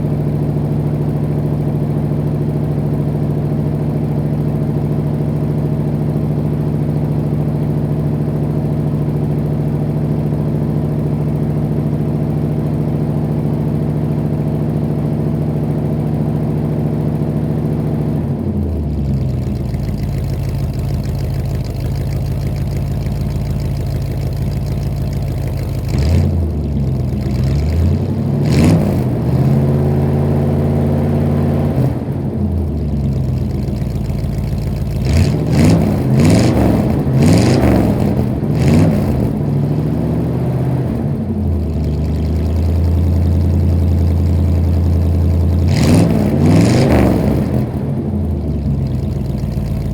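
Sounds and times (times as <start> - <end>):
car exhaust idling and revving: 0.0 - 49.9.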